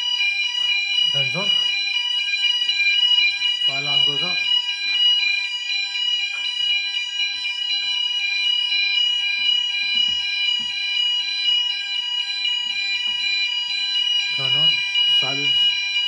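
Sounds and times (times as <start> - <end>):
fire alarm high tones: 0.0 - 16.0.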